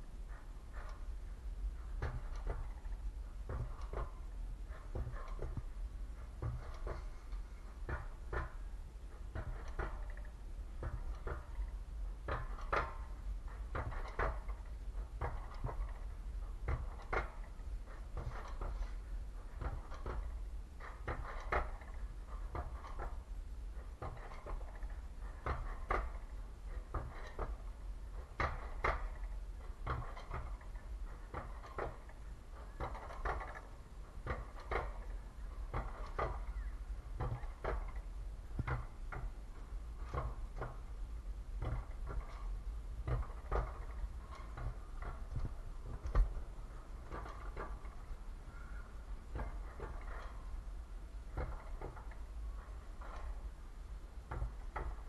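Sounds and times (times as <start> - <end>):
coaster sled rumbling on rail: 0.0 - 55.0
wheels clicking and knocking: 0.0 - 55.0.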